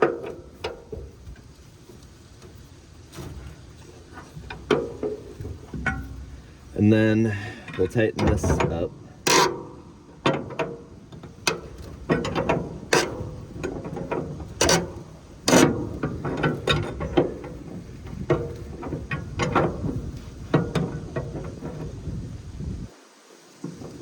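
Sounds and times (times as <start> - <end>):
metal clanks: 0.0 - 22.9.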